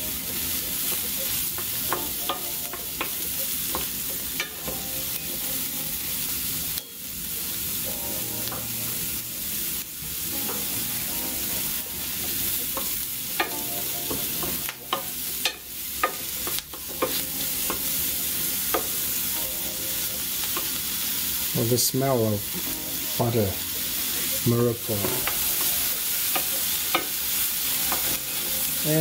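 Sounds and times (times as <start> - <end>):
vegetables sizzling in pan: 0.0 - 29.0.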